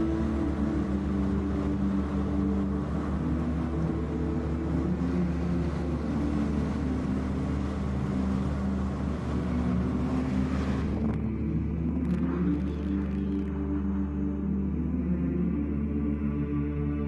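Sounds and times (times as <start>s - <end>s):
rumbling hissing vehicle noise: 0.0s - 14.6s
low sustained drone: 0.0s - 17.0s.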